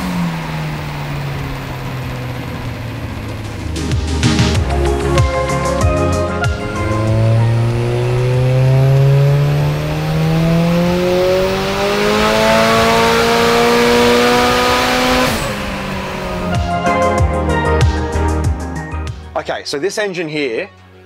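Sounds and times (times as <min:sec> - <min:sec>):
car engine revving on dyno: 0:00.0 - 0:17.0.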